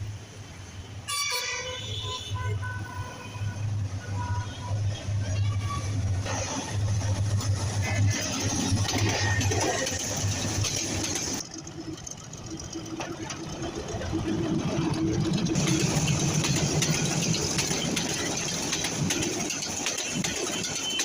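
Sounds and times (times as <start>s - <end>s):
diesel locomotive engine running: 2.0s - 21.0s.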